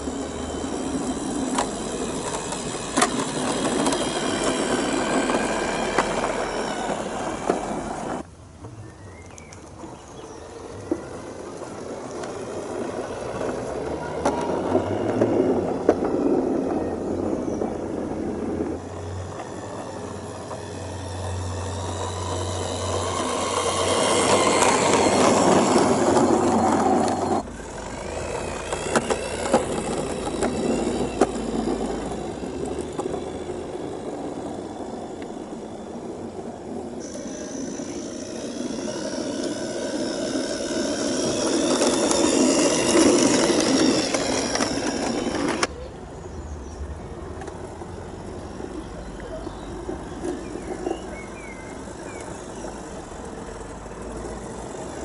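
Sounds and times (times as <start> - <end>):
model railcar mechanical rattle: 0.0 - 46.0, 47.2 - 55.0
wheels clicking on rails: 0.0 - 55.0.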